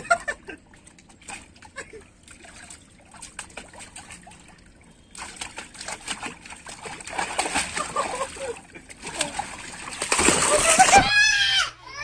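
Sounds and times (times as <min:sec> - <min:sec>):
water splashing in paddling pool: 0:00.5 - 0:11.3.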